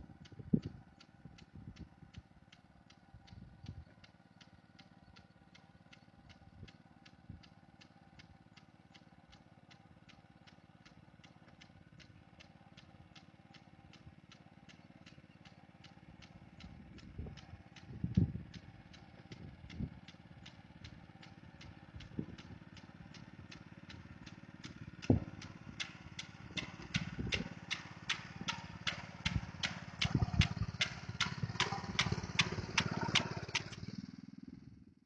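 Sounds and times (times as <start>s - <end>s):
regular sharp ticking: 0.0s - 34.1s
small engine running: 0.0s - 35.0s.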